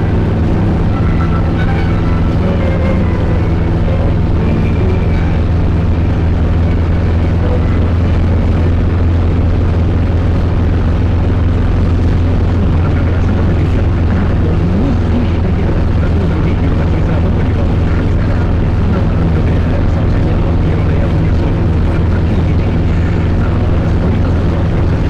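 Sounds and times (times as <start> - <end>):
tractor diesel engine drone: 0.0 - 25.0.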